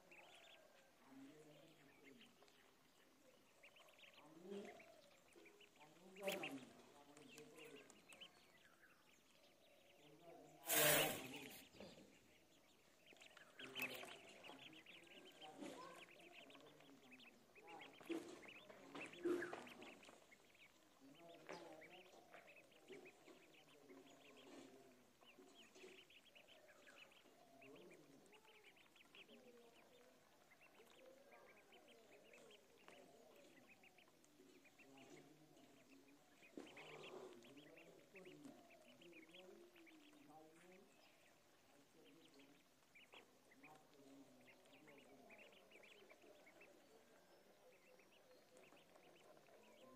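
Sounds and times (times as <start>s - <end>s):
ducklings peeping: 0.0s - 49.9s.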